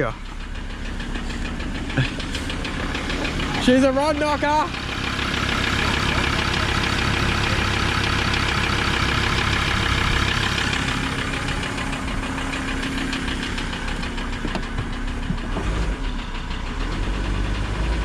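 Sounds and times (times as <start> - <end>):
engine idling with rhythmic knocking: 0.0 - 18.0.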